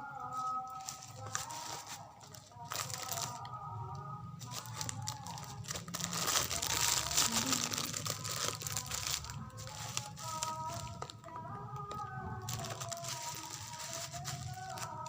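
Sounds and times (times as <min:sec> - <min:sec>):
packaging crinkling and rustling: 0:00.3 - 0:03.5, 0:04.4 - 0:15.0.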